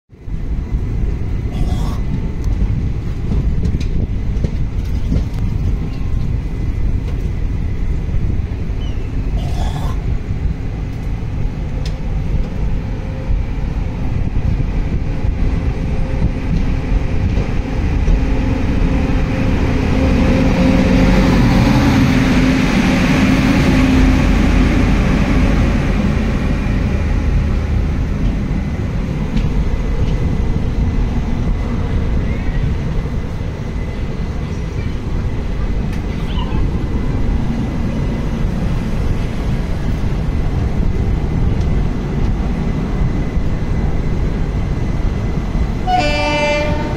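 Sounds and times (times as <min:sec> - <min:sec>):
passing locomotive and coaches: 0:00.1 - 0:46.9
train rumble: 0:00.1 - 0:46.9.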